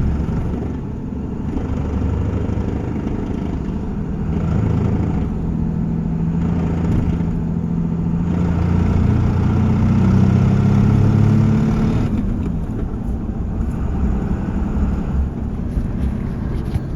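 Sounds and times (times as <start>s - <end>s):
diesel engine revving: 0.0s - 16.9s.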